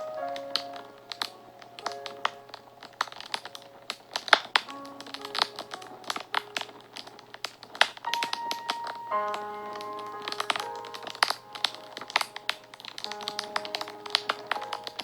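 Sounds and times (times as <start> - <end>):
fire crackling and popping: 0.0 - 15.0
soft background music: 0.0 - 15.0.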